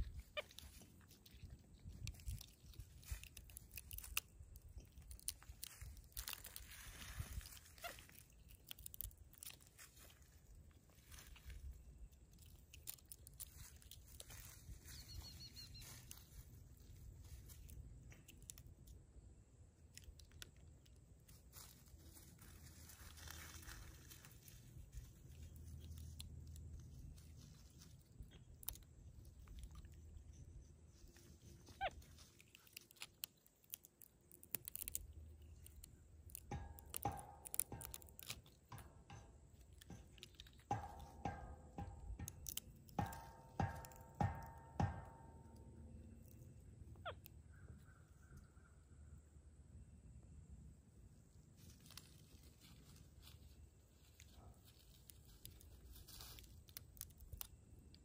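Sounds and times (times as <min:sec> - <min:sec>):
monkey crunching pine cone: 0:00.0 - 0:14.8, 0:15.5 - 0:19.0, 0:19.7 - 0:48.4, 0:51.6 - 0:58.0.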